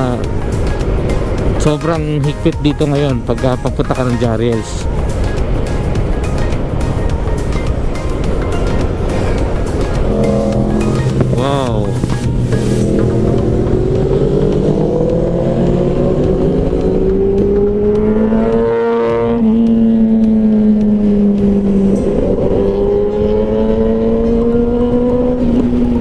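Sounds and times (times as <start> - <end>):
motorcycle engine accelerating: 4.8 - 26.0.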